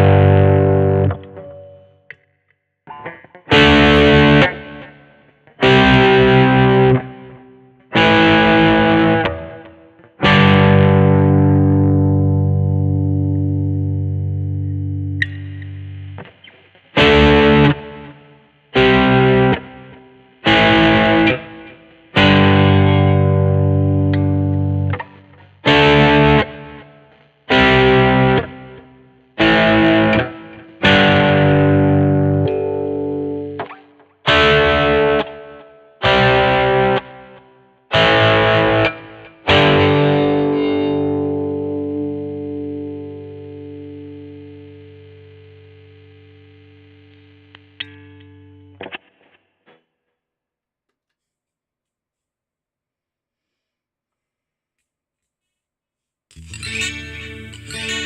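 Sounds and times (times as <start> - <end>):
electric guitar strumming chords: 0.0 - 2.3, 2.9 - 49.8, 56.3 - 58.0.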